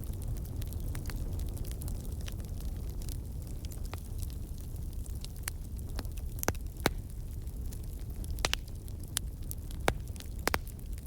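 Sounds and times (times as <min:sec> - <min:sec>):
low rumble of flame: 0:00.0 - 0:11.0
wood fire crackling and popping: 0:00.0 - 0:11.0.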